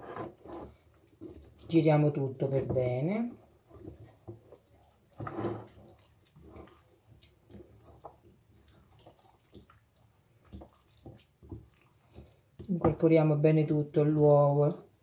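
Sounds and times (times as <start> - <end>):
spoon stirring wet filling in bowl: 0.0 - 15.0.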